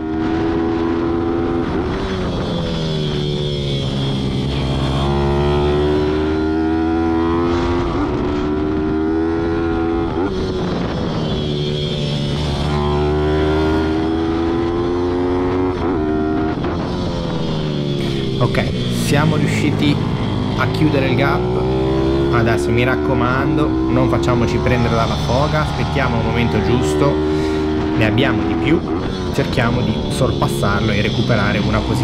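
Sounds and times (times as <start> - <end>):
pit bike engine revving: 0.0 - 32.0.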